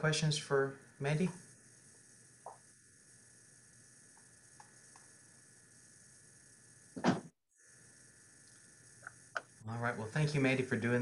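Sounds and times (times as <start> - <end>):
open microphone hum and hiss: 0.0 - 11.0.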